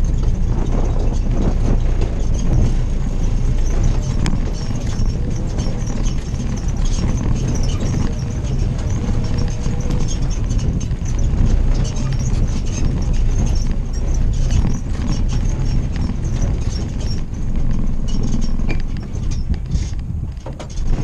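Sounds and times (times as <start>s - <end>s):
body and suspension rattling: 0.0s - 21.0s
jeep engine rumbling: 0.0s - 21.0s.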